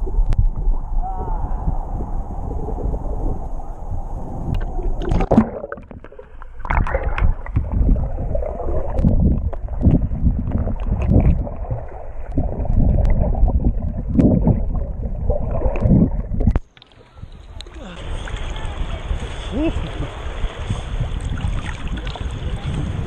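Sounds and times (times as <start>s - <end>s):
muffled water sloshing and gurgling: 0.0s - 23.0s.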